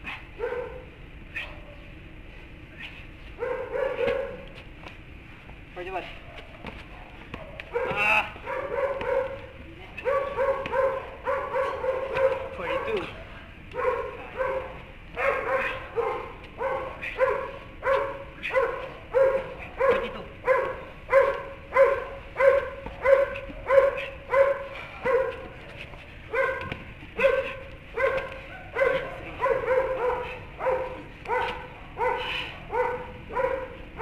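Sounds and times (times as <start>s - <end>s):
dog barking: 0.1s - 1.8s, 3.4s - 4.4s, 6.2s - 25.6s, 26.3s - 34.0s.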